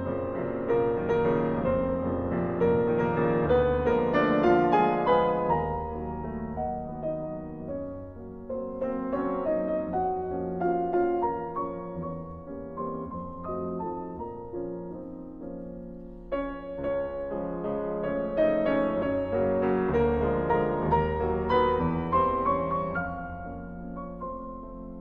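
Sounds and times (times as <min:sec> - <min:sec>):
slow piano music: 0:00.0 - 0:25.0.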